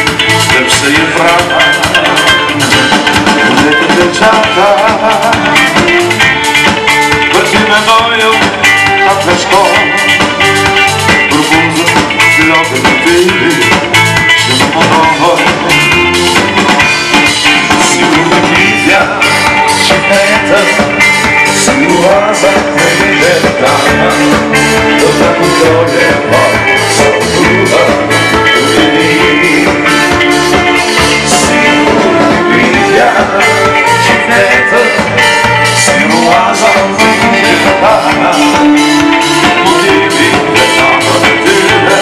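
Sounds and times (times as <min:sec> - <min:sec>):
bass guitar: 0:00.0 - 0:42.0
drum kit steady beat: 0:00.0 - 0:42.0
electric guitar: 0:00.0 - 0:42.0
man singing: 0:00.0 - 0:42.0.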